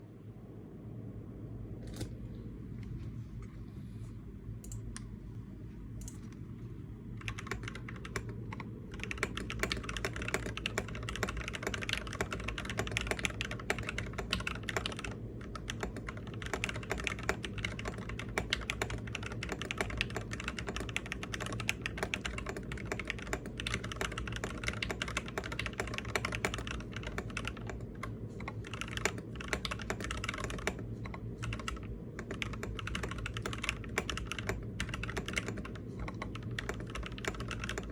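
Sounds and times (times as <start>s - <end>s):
steady low hum: 0.0s - 37.9s
mechanical keyboard typing: 7.1s - 37.9s.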